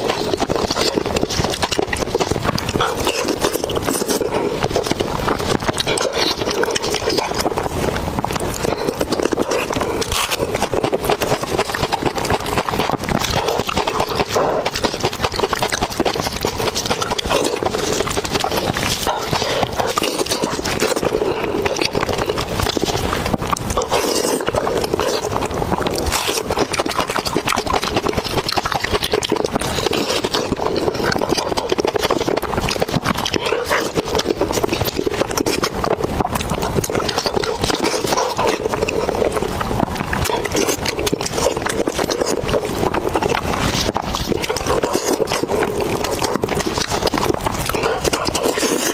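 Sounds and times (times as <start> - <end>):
person chewing with wet crunching: 0.0 - 48.9.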